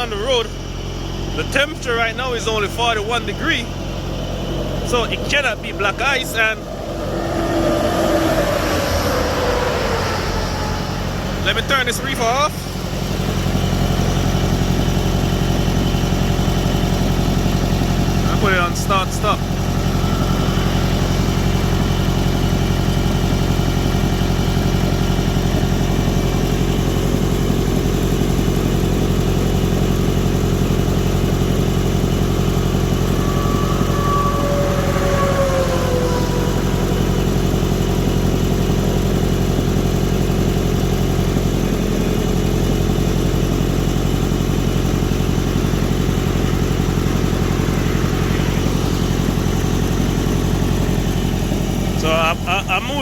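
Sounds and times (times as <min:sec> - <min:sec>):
diesel engine running: 0:00.0 - 0:53.0
falling whine: 0:00.0 - 0:53.0.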